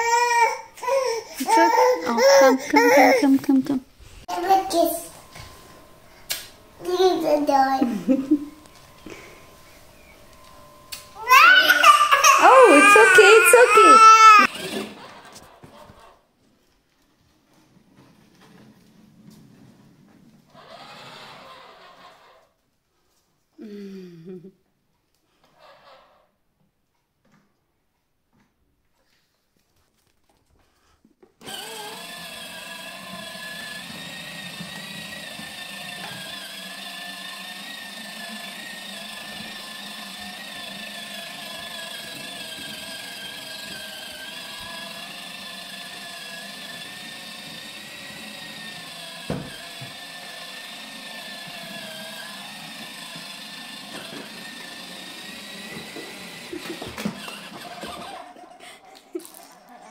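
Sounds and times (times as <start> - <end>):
toy motorbike electric motor whine: 0.0 - 16.3, 18.0 - 22.6, 25.4 - 26.3, 31.4 - 59.9.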